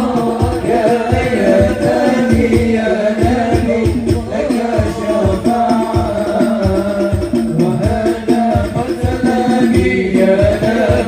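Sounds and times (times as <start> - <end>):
men singing through microphones: 0.0 - 11.0
steady drum beat: 0.0 - 11.0.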